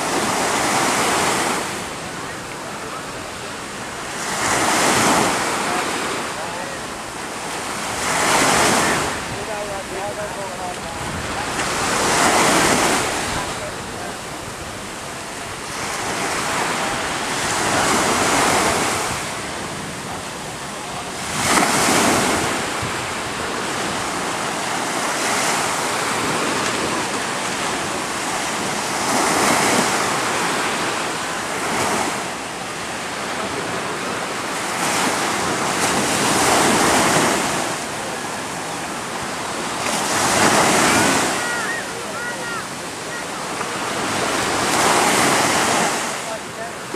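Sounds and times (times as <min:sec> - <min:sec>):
small waves breaking: 0:00.0 - 0:46.9.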